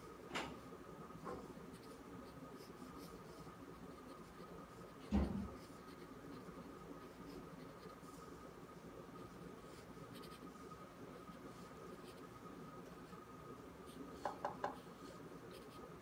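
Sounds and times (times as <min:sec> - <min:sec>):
pencil scratching on paper: 0:01.2 - 0:12.3, 0:13.8 - 0:15.9.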